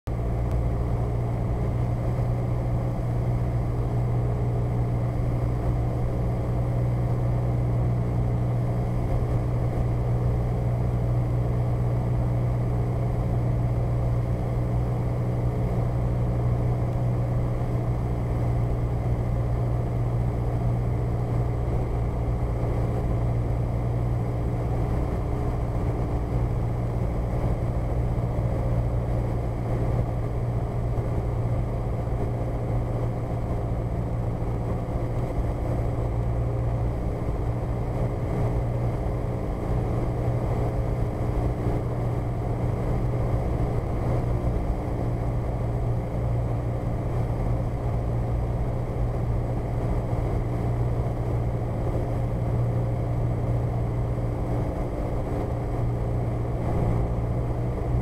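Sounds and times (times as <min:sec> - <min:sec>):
small plane engine drone: 0:00.1 - 0:58.0.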